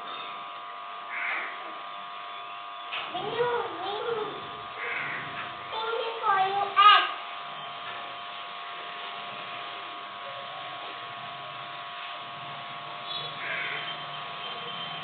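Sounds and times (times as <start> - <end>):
faint humming tones: 0.0 - 15.0.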